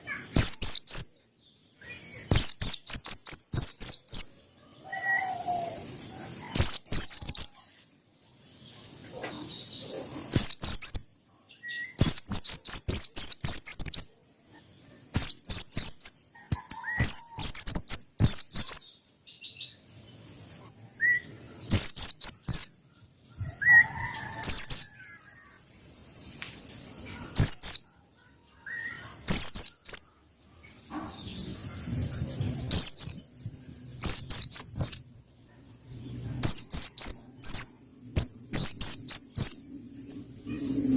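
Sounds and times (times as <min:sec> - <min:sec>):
bird singing high-pitched phrases: 0:00.0 - 0:07.7, 0:09.6 - 0:14.3, 0:15.0 - 0:20.4, 0:21.0 - 0:26.0, 0:26.9 - 0:35.0, 0:36.4 - 0:39.6.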